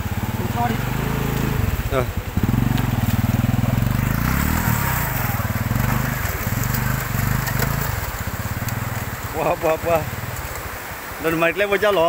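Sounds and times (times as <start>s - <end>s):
small motorcycle engine running: 0.0s - 10.8s.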